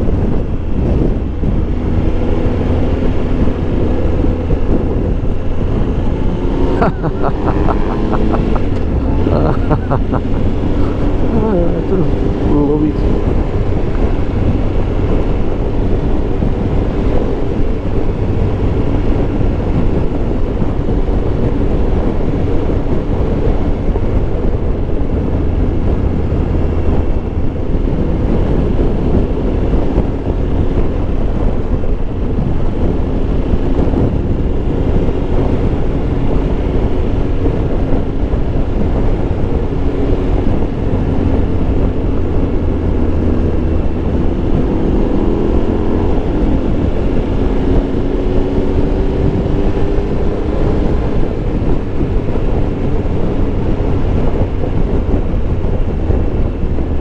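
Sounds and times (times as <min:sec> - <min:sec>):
motorcycle engine drone: 0:00.0 - 0:57.0
wind rushing over microphone: 0:00.0 - 0:57.0.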